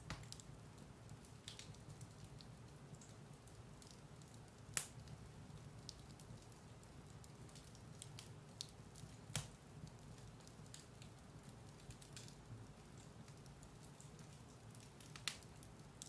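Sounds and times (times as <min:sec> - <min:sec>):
firewood crackling and popping: 0:00.0 - 0:16.0
flames rumbling in a fireplace: 0:00.0 - 0:16.0.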